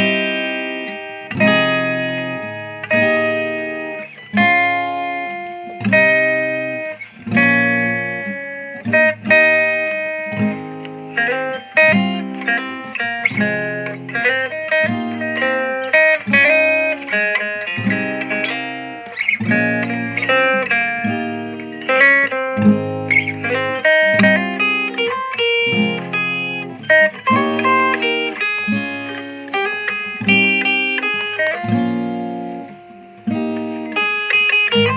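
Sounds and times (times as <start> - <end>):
guitar melody over plucked chords: 0.0 - 34.9.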